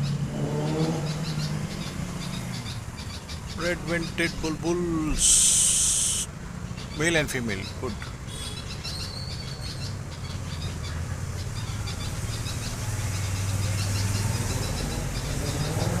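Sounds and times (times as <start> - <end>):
low engine hum: 0.0 - 16.0
small birds chirping: 0.0 - 16.0.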